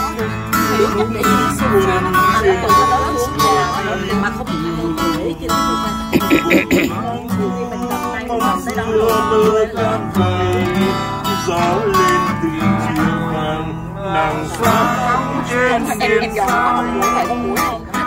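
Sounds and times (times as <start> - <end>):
guitar melody: 0.0 - 18.0.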